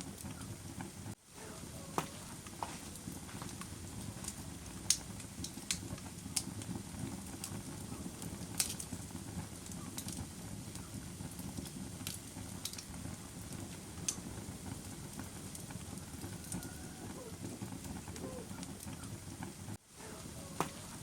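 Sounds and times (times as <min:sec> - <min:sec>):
fire crackling and popping: 0:00.0 - 0:21.0
low rumble of burning: 0:00.0 - 0:21.0.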